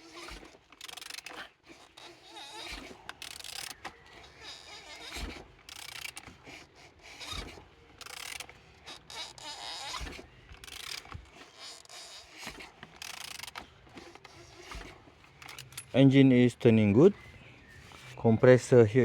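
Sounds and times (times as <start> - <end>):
engine being turned over by hand: 0.0 - 16.8.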